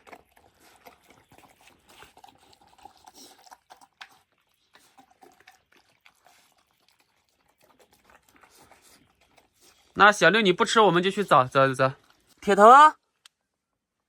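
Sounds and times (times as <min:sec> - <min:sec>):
wet smacking of eating: 0:00.0 - 0:12.4.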